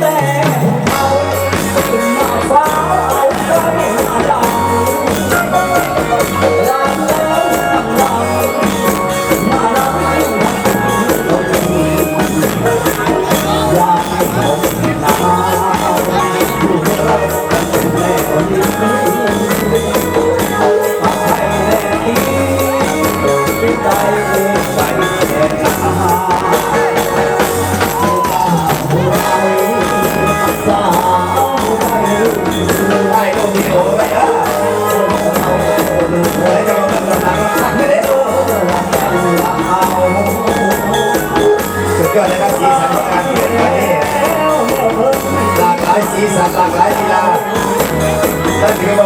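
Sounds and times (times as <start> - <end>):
dance band music: 0.0 - 49.0
jingling percussion: 0.0 - 49.0
steady drum beat: 0.0 - 49.0
wavering melody line: 0.6 - 49.0.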